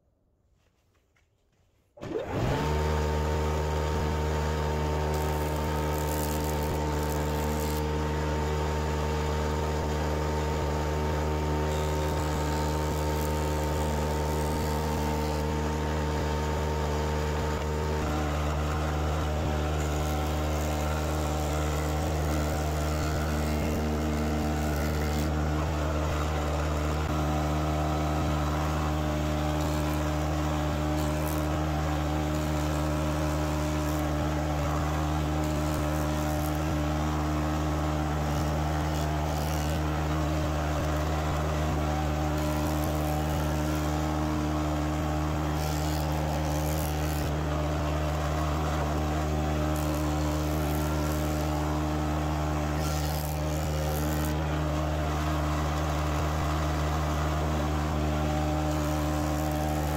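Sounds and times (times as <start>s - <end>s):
jointer motor hum: 2.0s - 59.9s.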